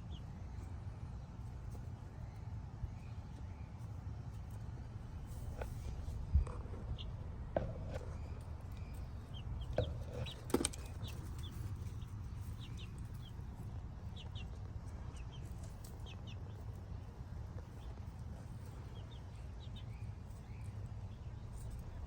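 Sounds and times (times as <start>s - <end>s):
chicks peeping: 1.4s - 22.0s.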